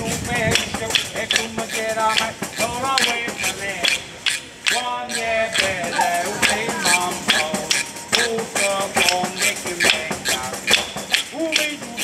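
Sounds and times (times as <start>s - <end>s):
frame drum beating: 0.0s - 12.0s
man singing: 0.0s - 12.0s.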